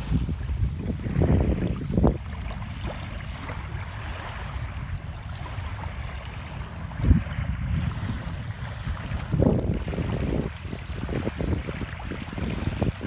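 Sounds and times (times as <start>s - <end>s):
waves lapping on gravel shore: 0.0s - 13.0s
wind rumble on microphone: 0.0s - 13.0s.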